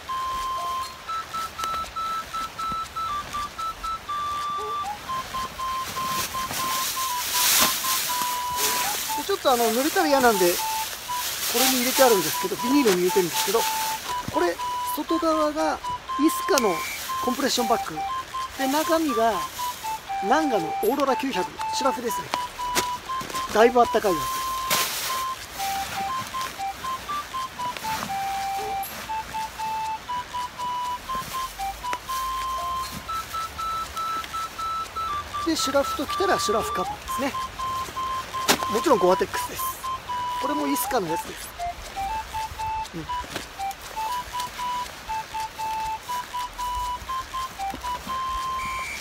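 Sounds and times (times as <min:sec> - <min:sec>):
beep-like electronic melody: 0:00.0 - 0:49.0
gear rustling: 0:01.0 - 0:49.0.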